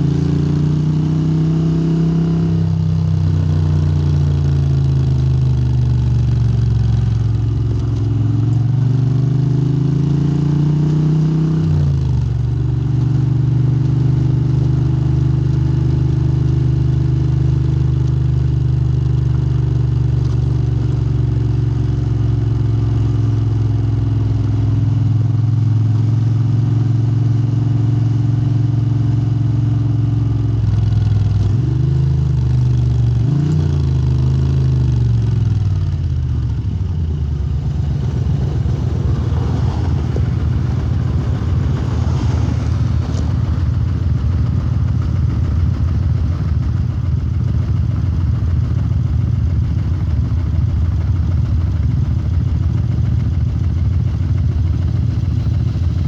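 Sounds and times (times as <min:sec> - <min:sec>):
motorcycle engine running: 0:00.0 - 0:26.1, 0:28.6 - 0:56.0.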